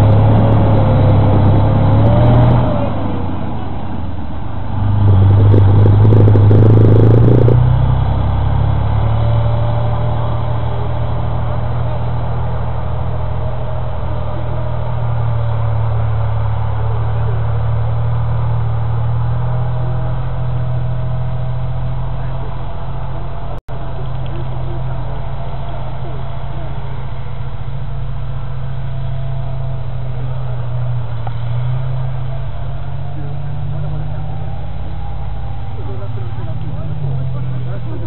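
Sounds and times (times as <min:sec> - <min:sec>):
tank diesel engine revving: 0:00.0 - 0:38.0.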